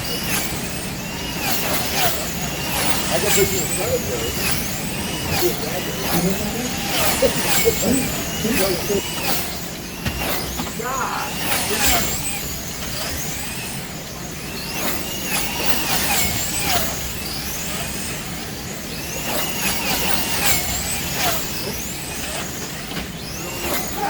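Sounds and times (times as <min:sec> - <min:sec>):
cars clicking and rattling in slots: 0:00.0 - 0:24.0
slot car motors whining: 0:00.0 - 0:24.0.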